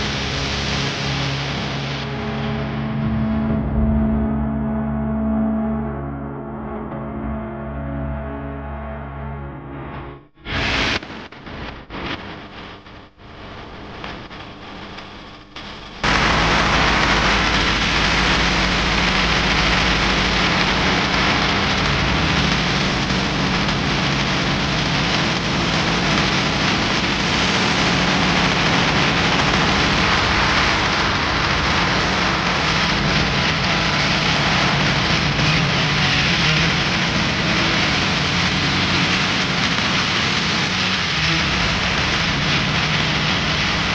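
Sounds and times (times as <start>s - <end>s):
loud steady rushing noise: 0.0s - 5.6s, 10.5s - 43.9s
low hum: 0.0s - 43.9s.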